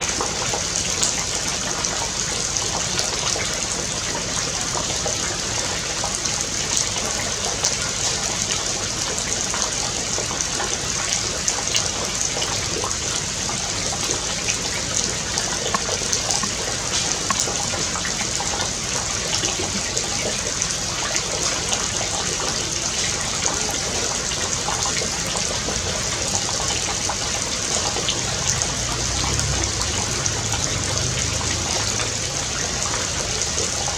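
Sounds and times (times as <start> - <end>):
flowing water: 0.0 - 33.9.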